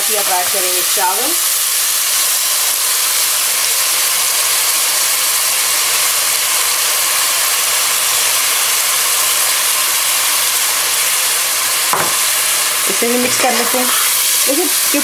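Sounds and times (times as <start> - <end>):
ghee sizzling in a pot: 0.0 - 15.0.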